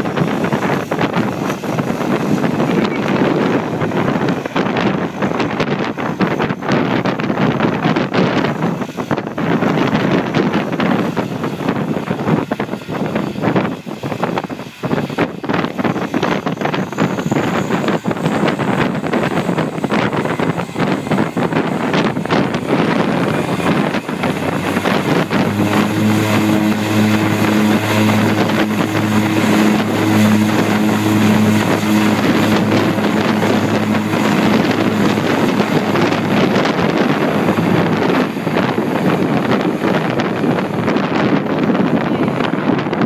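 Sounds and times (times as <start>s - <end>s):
propeller hum: 0.0s - 43.0s
wind noise on microphone: 0.0s - 43.0s.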